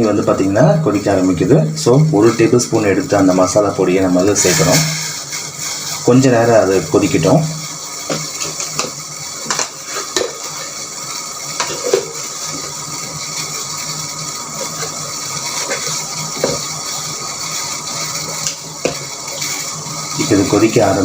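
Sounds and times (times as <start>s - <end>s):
water heating with steady hiss: 0.0s - 21.0s.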